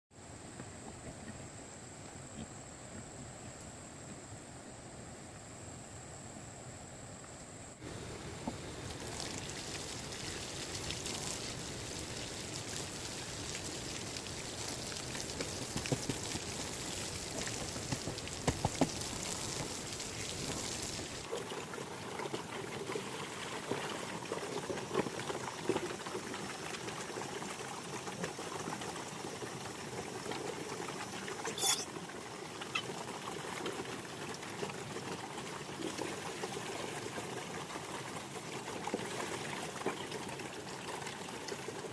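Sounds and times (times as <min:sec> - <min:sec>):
water trickling and pouring: 0:08.0 - 0:41.9.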